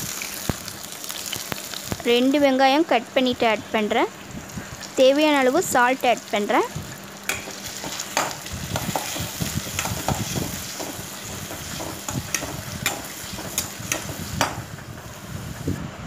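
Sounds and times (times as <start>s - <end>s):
onions sizzling in oil: 0.0s - 15.8s.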